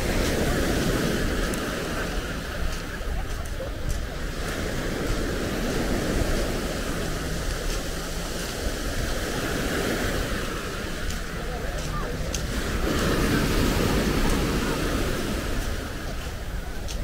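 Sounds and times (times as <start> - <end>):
waves on pebble beach: 0.0 - 17.0.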